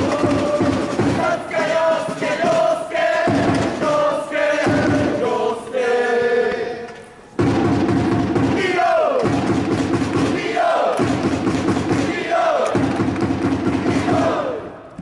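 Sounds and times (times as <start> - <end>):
crowd chanting in unison: 0.0 - 7.0, 7.7 - 15.0.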